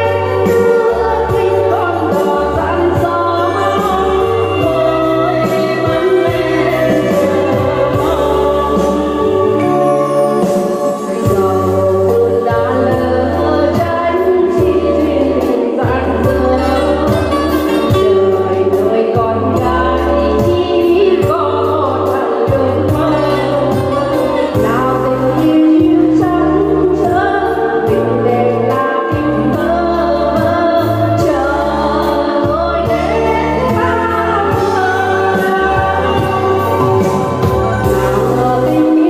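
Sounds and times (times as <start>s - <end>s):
backing track with bass line: 0.0s - 39.0s
two women singing: 0.0s - 39.0s.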